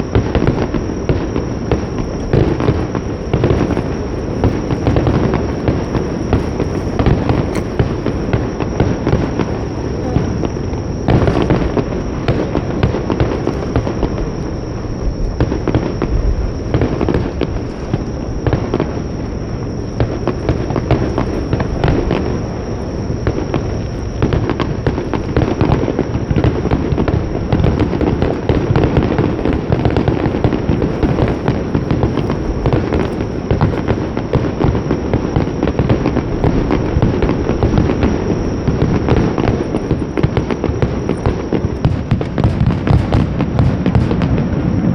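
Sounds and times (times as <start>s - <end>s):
fireworks booming and crackling: 0.0s - 44.9s.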